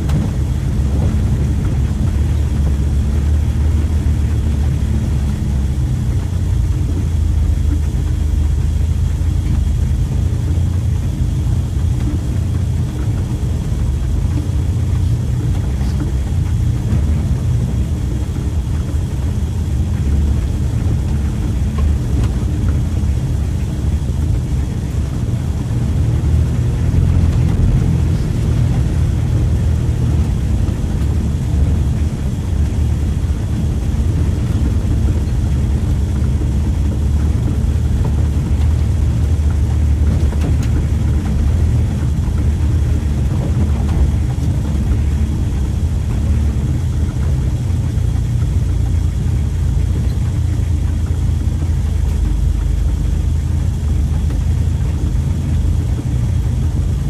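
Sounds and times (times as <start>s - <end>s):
pickup engine rumbling: 0.0s - 57.0s.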